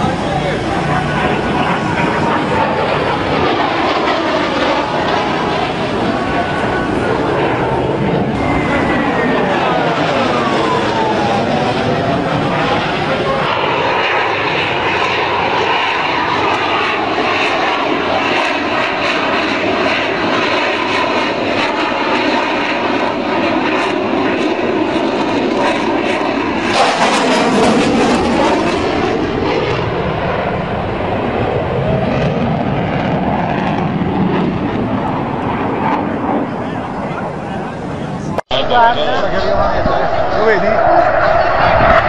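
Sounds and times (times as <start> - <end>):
jet aircraft flying past: 0.0 - 42.0.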